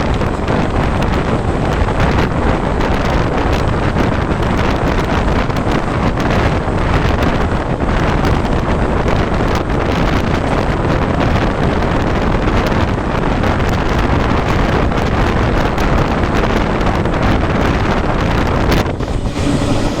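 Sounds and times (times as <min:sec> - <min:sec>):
moving train running noise: 0:00.0 - 0:20.0
wind buffeting microphone: 0:00.0 - 0:20.0.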